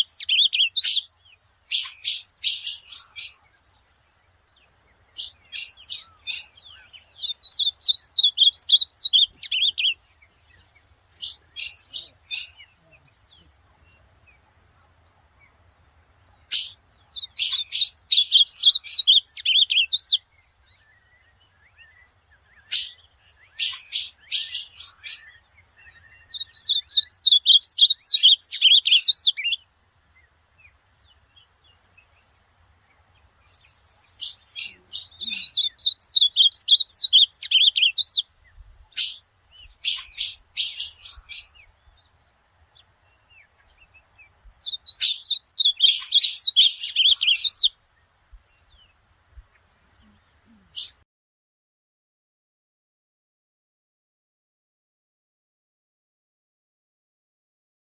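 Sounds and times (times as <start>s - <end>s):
bird singing warbling phrases: 0.0s - 51.0s.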